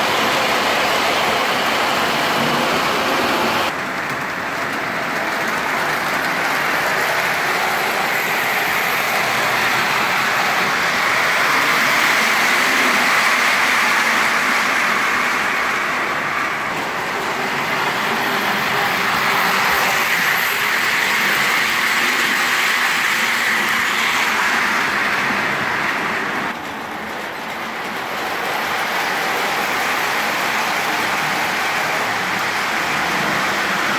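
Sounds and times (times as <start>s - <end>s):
model trains rolling rumble: 0.0s - 33.9s.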